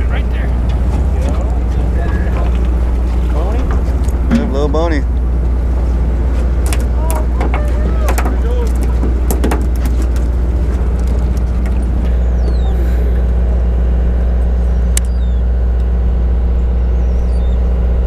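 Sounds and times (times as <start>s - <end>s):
boat engine idling: 0.0s - 18.0s.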